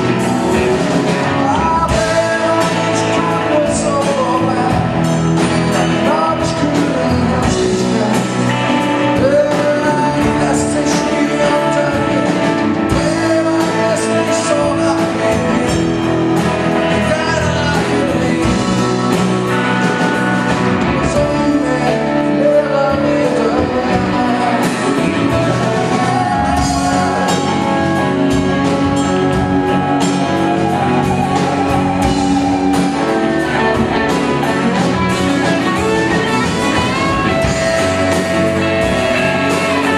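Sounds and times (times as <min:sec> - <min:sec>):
acoustic and electric guitars: 0:00.0 - 0:39.9
drums: 0:00.0 - 0:39.9
keyboards: 0:00.0 - 0:39.9
man singing lead: 0:00.0 - 0:39.9.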